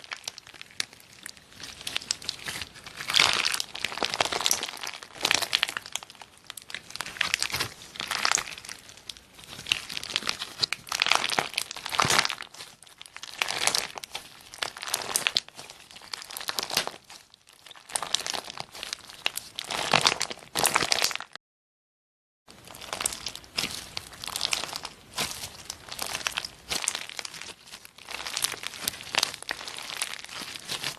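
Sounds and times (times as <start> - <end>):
slime crackling and crinkling: 0.0 - 21.4, 22.5 - 30.9.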